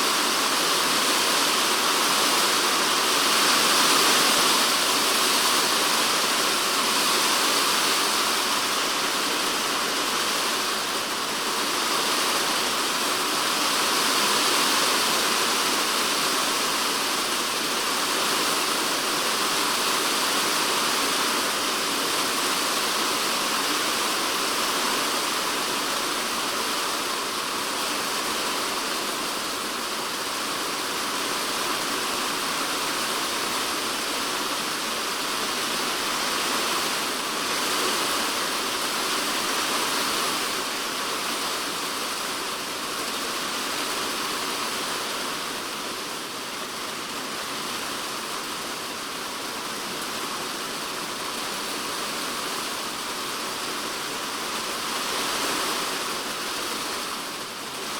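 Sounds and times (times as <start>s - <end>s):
heavy rain drumming on shed roof: 0.0s - 57.9s.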